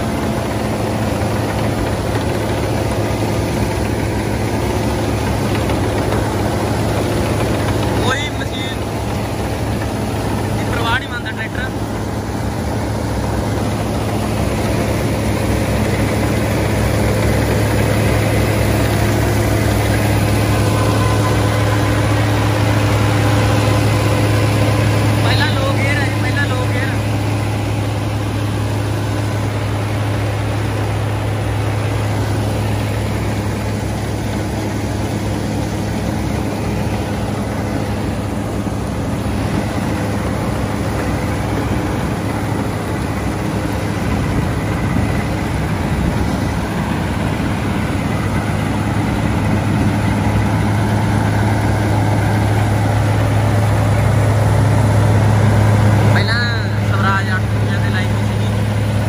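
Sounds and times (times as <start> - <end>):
reaper machinery whirring: 0.0 - 59.0
tractor engine running under load: 0.0 - 59.0.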